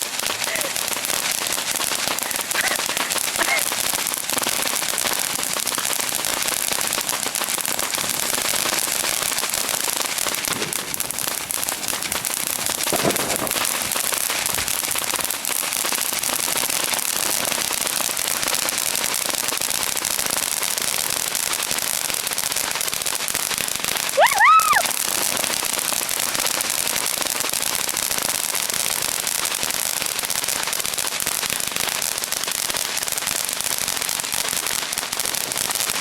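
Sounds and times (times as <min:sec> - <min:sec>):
firecrackers crackling: 0:00.0 - 0:36.0.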